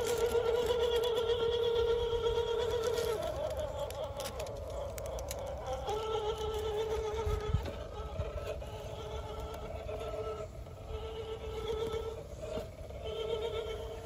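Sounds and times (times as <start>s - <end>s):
electric motor and gear whine: 0.0s - 14.0s.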